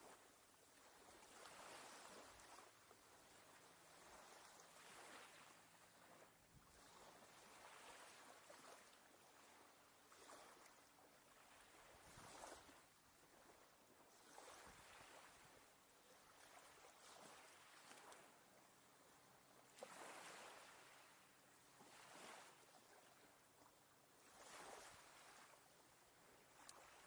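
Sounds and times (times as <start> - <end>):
small waves lapping: 0.0 - 27.0.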